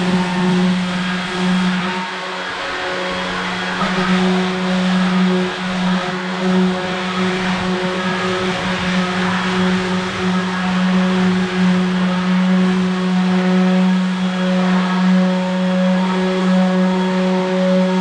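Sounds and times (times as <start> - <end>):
electric sander running: 0.0 - 18.0.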